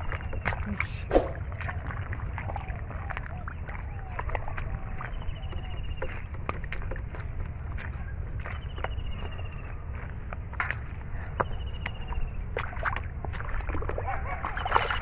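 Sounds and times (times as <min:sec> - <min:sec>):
squelching and splashing in mud water: 0:00.0 - 0:15.0.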